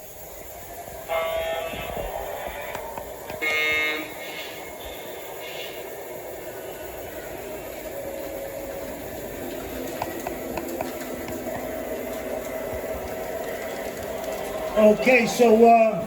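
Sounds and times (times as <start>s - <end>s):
model train motor and rolling: 0.0s - 16.0s.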